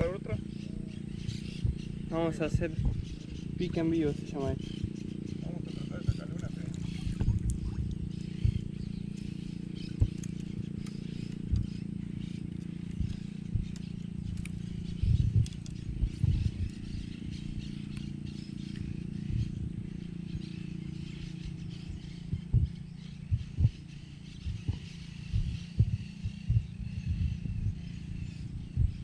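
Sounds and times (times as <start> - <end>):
short low thumps: 0.0 - 29.0
steady low hum: 0.0 - 29.0.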